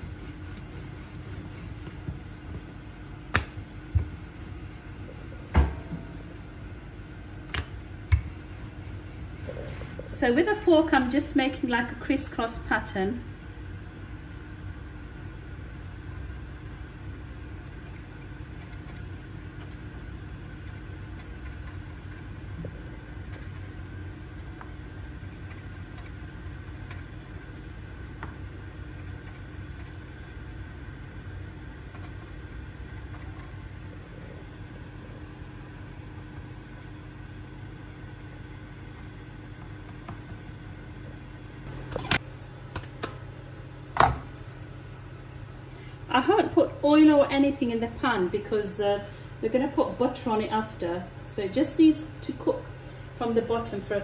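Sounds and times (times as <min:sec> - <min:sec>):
low kitchen hum: 0:00.0 - 0:54.0.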